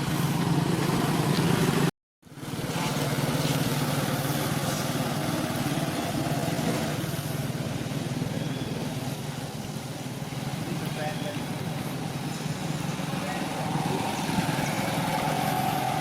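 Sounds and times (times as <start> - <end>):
steady motor hum: 0.0 - 16.0.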